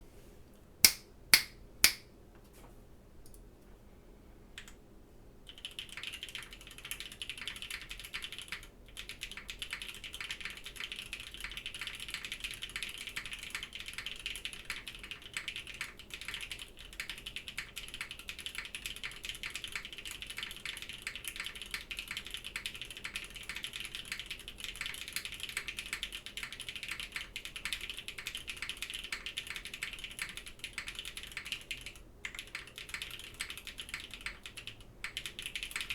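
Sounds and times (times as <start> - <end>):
mechanical keyboard typing: 5.5 - 35.9.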